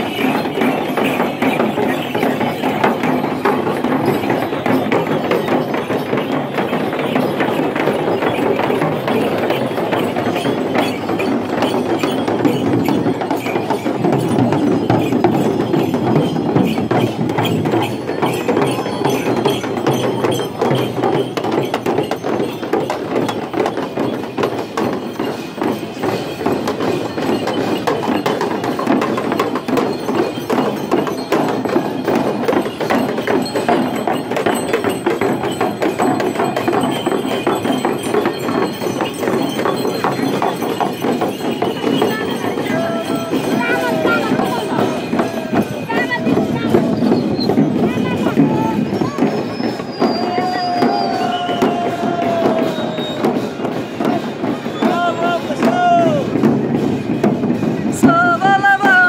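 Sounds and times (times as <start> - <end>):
crowd chatter: 0.0 - 59.0
frame drums beaten rapidly: 0.0 - 59.0.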